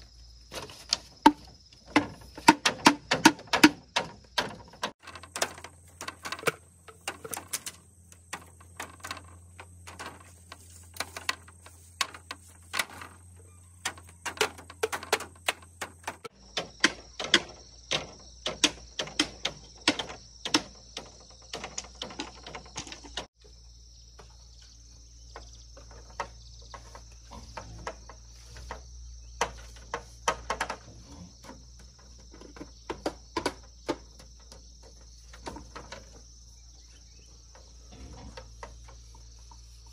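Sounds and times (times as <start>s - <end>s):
bamboo strips clattering: 0.0s - 23.4s, 25.3s - 36.3s
insects chirring: 0.0s - 39.9s.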